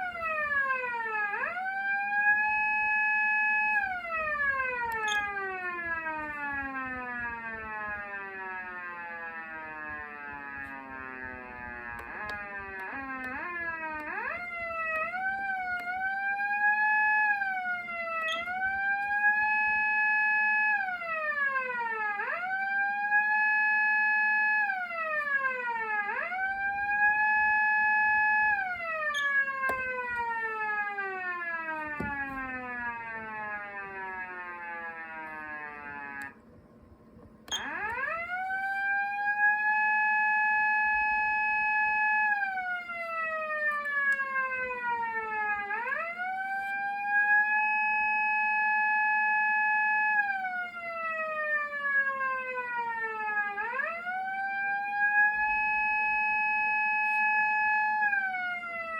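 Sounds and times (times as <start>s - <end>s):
electronic police siren wailing: 0.0s - 58.9s.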